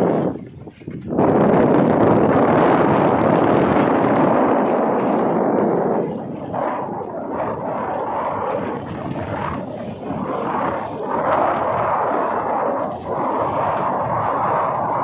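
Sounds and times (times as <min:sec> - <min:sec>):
sea rushing: 0:00.0 - 0:15.0
wind rushing on microphone: 0:00.0 - 0:15.0.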